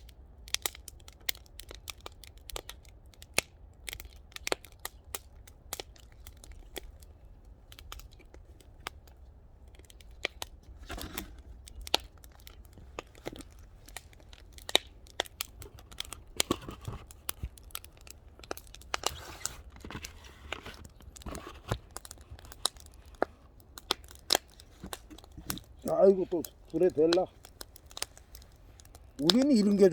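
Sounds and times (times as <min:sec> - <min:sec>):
wood fire crackling and popping: 0:00.0 - 0:29.9.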